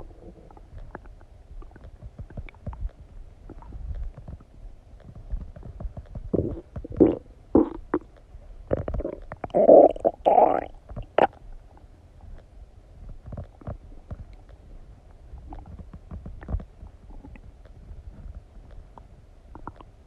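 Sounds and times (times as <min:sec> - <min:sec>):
stomach gurgling and rumbling: 0:00.0 - 0:20.0.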